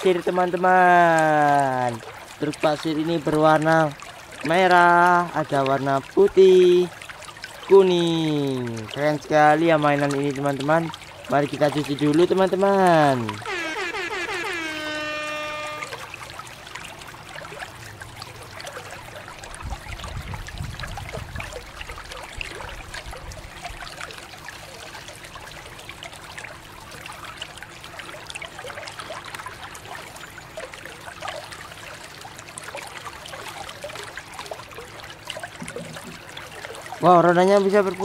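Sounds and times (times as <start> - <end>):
water splashing over plastic toy: 0.5 - 24.2, 31.0 - 38.0.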